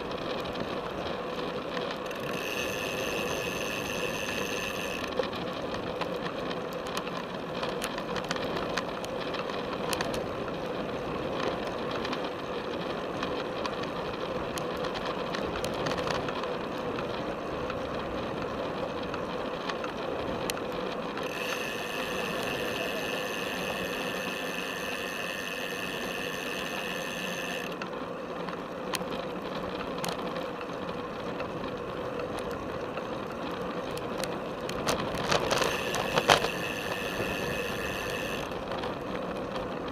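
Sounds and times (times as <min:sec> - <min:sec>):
bike frame clicks and rattles: 0:00.0 - 0:39.9
tyre and road noise: 0:00.0 - 0:39.9.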